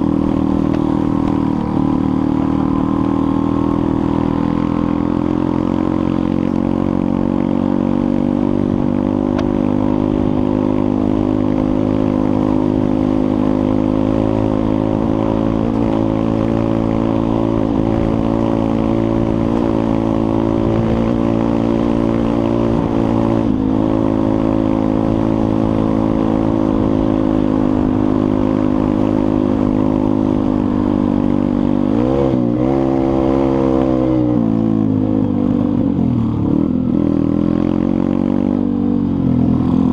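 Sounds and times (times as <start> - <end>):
small motorbike engine running: 0.0 - 39.9.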